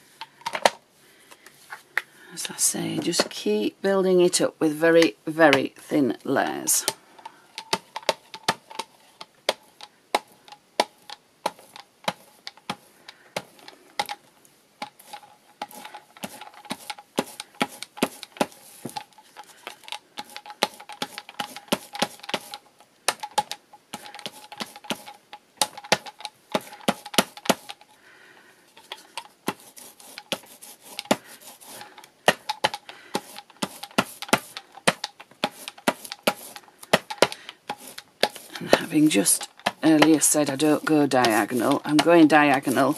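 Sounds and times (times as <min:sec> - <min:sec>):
paint roller crackling: 0:01.6 - 0:14.2, 0:14.8 - 0:42.9.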